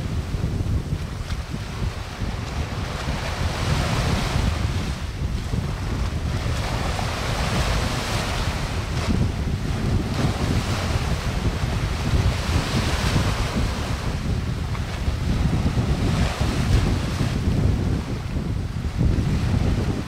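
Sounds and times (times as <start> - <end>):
small waves washing on beach: 0.0 - 20.0
wind buffeting microphone: 0.0 - 20.0.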